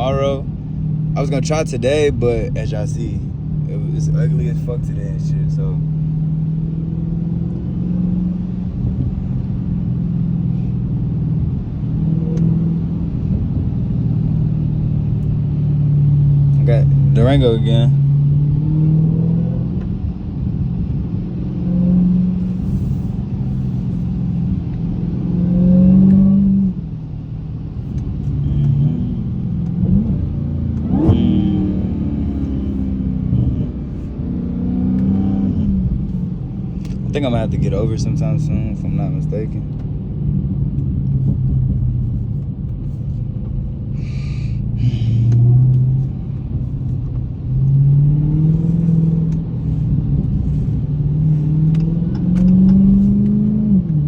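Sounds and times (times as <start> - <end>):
car engine droning from inside cabin: 0.0 - 54.0.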